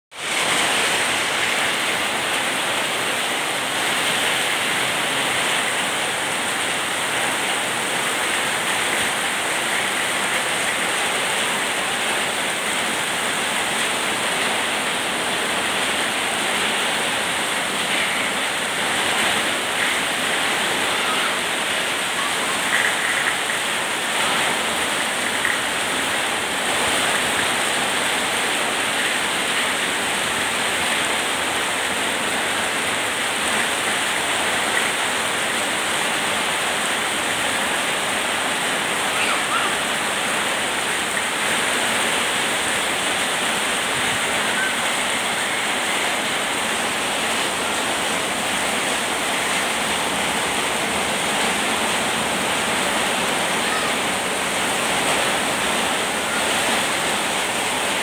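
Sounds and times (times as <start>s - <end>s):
heavy rain on flooded street: 0.1s - 58.0s.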